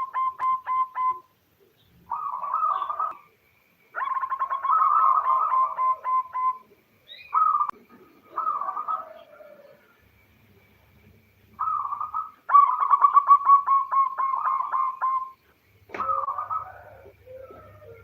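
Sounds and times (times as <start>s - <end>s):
dove cooing: 0.0s - 1.3s, 2.0s - 3.3s, 3.9s - 10.1s, 11.5s - 18.0s.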